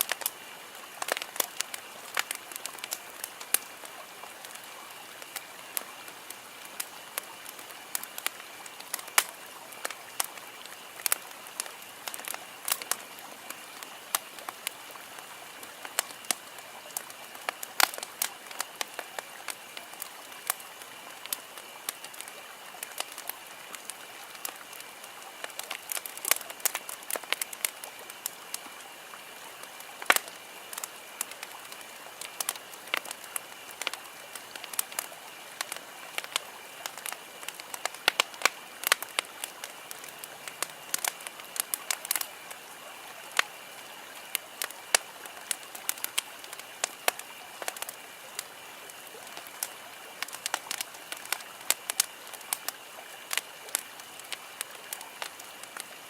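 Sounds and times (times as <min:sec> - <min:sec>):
wood campfire crackling: 0:00.0 - 0:56.0.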